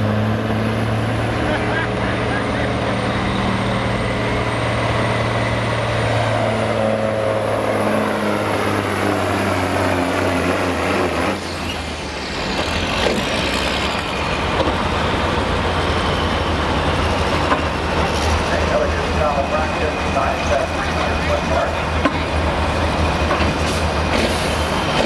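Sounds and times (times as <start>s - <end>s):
diesel truck engine running: 0.0s - 25.0s
high engine whine: 0.0s - 25.0s.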